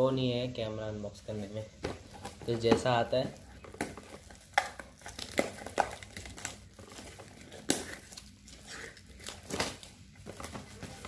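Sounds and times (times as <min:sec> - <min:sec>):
plastic shrink-wrap crinkling: 0:01.9 - 0:11.0.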